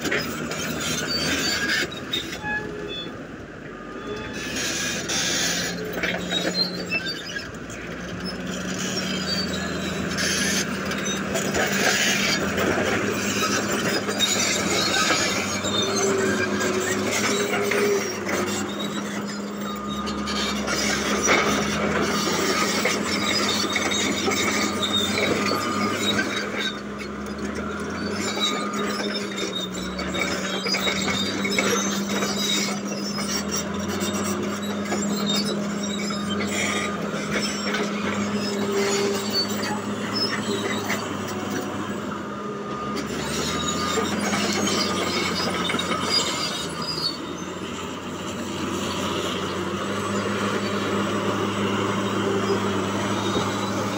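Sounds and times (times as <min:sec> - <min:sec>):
diesel engine running under load: 0:00.0 - 0:53.9
steel tracks squeaking: 0:00.0 - 0:53.9.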